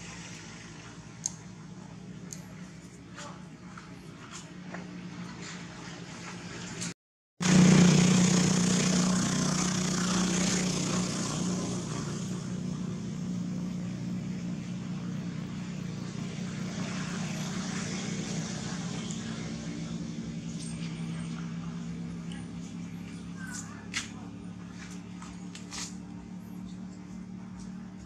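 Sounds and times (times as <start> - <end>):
motor vehicle engine running: 0.0 - 28.0.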